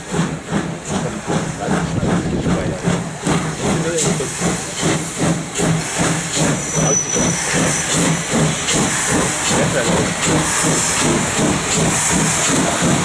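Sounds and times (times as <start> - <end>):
steam hissing: 0.0 - 13.0
steam locomotive exhaust chuffs: 0.0 - 13.0.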